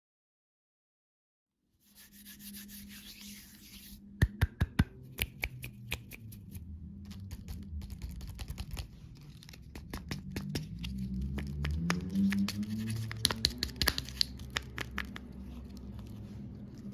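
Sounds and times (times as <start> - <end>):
low steady hum: 1.9 - 16.9.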